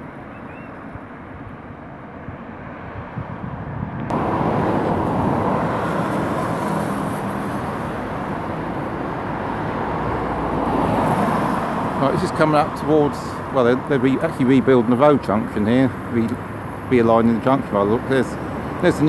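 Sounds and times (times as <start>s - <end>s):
traffic on a wet road: 0.0s - 19.0s.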